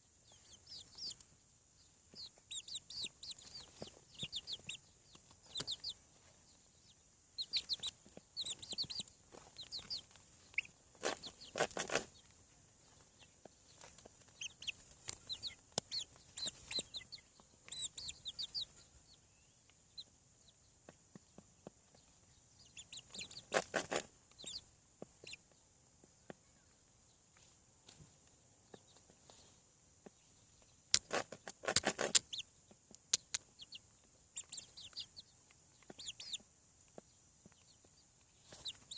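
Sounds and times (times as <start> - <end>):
chickens clucking: 0.0 - 38.9
chickens peeping: 0.0 - 38.9.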